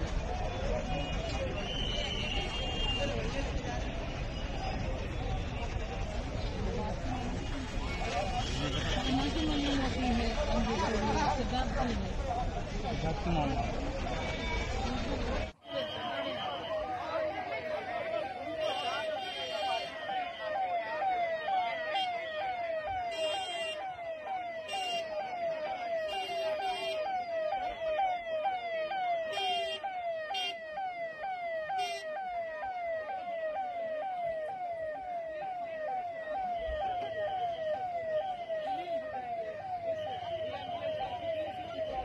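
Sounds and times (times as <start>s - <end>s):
emergency vehicle siren: 0.0s - 42.0s.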